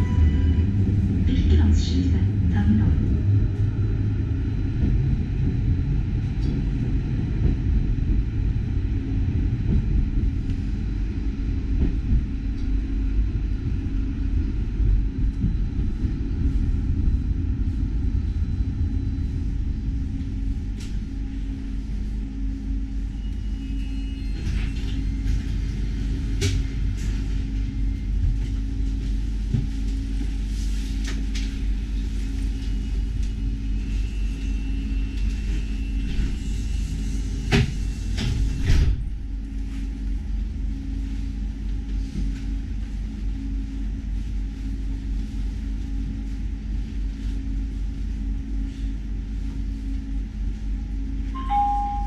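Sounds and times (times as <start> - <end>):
tram equipment rumble and hum: 0.0 - 52.0.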